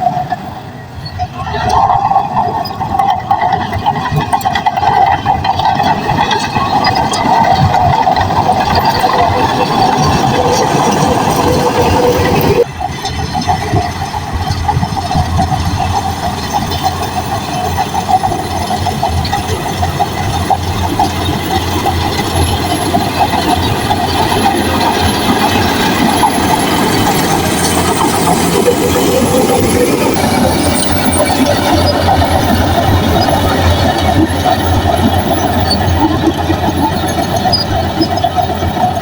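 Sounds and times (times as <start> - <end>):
steel tracks clattering: 0.0 - 39.0.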